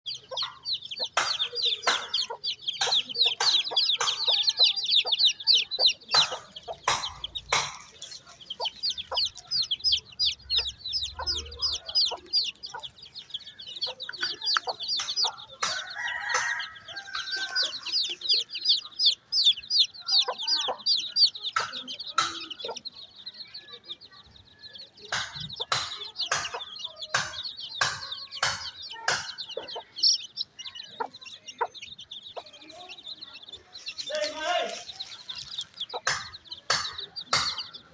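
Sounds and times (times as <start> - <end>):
chicks peeping: 0.0 - 37.9
hen clucking: 0.1 - 23.1, 25.0 - 37.9.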